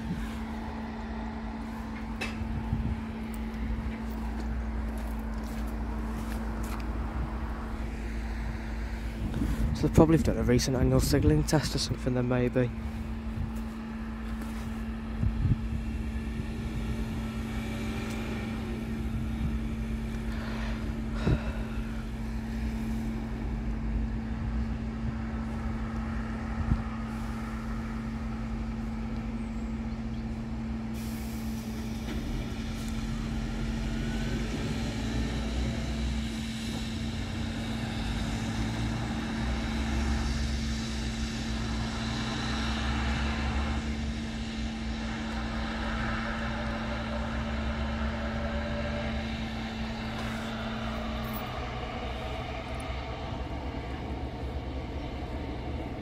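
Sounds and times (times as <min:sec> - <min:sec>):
steady low hum: 0:00.0 - 0:56.0
vehicle engines idling: 0:00.0 - 0:56.0.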